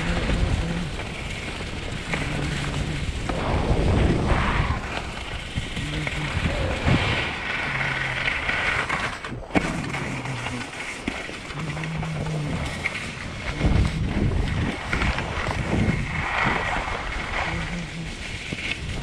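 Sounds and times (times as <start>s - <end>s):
wind buffeting microphone: 0.0s - 10.8s, 11.4s - 19.0s
skis carving on snow: 0.0s - 19.0s.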